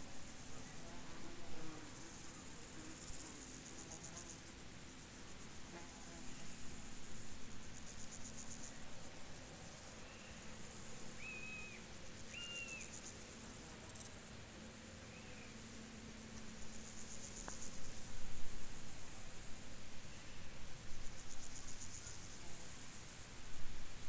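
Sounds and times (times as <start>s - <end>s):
insects chirping trills: 0.1s - 24.0s.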